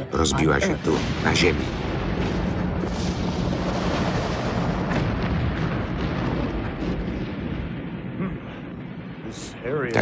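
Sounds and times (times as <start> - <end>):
explosion rumble: 0.1 - 10.0.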